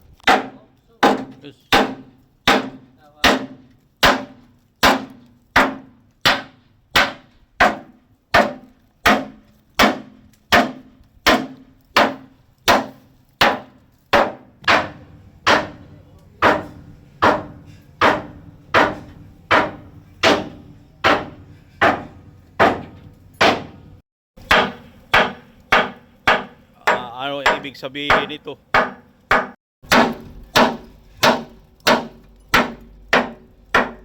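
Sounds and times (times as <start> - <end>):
hammer striking steel frame: 0.2 - 34.0.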